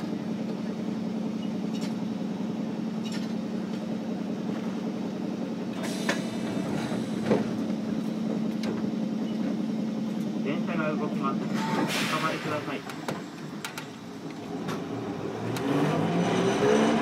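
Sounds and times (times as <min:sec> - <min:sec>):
tram hum and rumble: 0:00.0 - 0:17.0.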